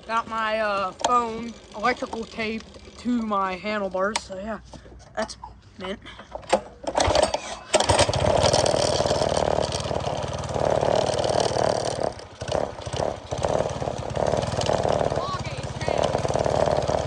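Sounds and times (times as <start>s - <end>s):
minibike engine starting and running: 0.0s - 5.2s, 5.8s - 17.0s.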